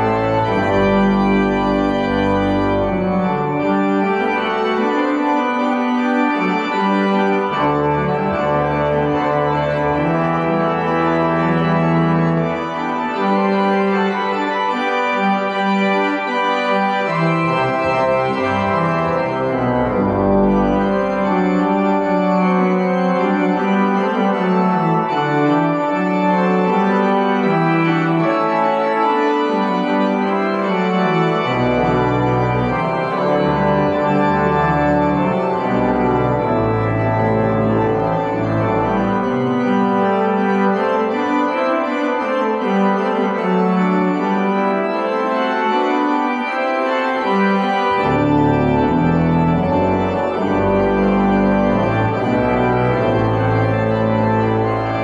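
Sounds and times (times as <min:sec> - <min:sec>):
church organ sustained chords: 0:00.0 - 0:55.0
deep organ pedal notes: 0:00.0 - 0:55.0.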